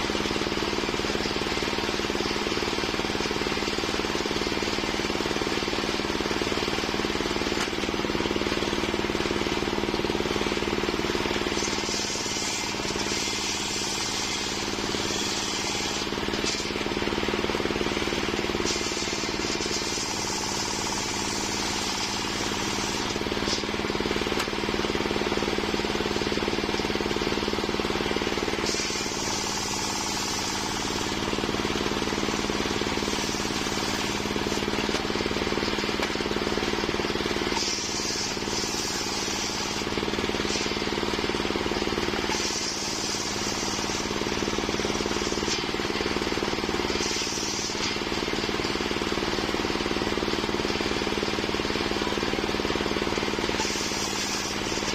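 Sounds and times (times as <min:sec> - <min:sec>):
circular saw cutting wood: 0:00.0 - 0:54.9.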